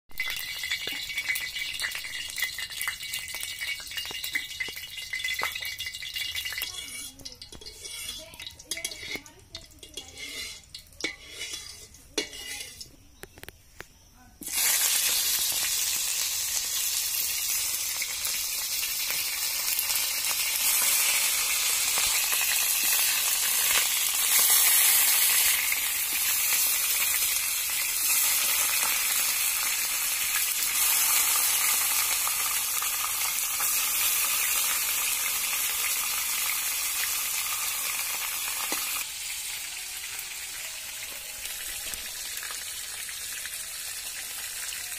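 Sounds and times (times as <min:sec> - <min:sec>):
fish sizzling in hot oil: 0:00.1 - 0:13.0, 0:14.4 - 0:44.9.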